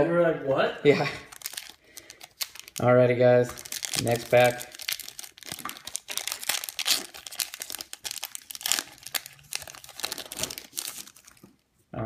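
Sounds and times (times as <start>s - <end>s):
foil wrapper crinkling: 1.2s - 11.6s.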